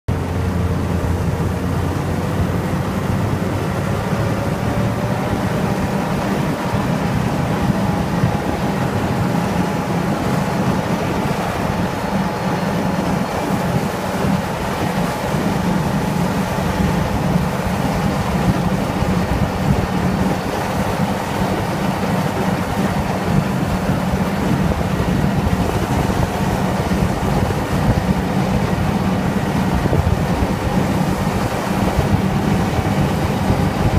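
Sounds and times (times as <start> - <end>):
vehicle engine running: 0.1 - 33.9
wind on microphone: 0.1 - 33.9.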